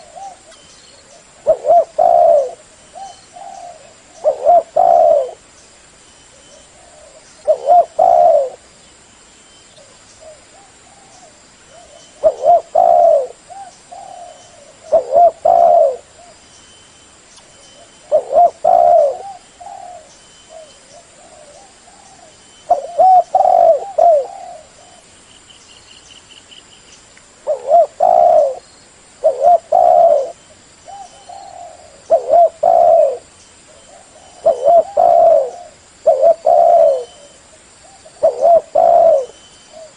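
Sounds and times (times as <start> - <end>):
dove cooing: 0.0 - 5.5, 6.3 - 8.6, 9.8 - 16.4, 17.6 - 25.2, 27.4 - 39.9.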